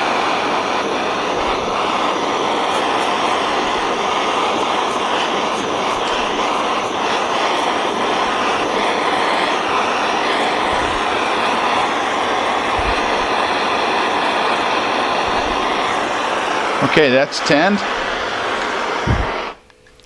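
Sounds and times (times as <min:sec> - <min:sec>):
gas torch hissing: 0:00.0 - 0:19.6.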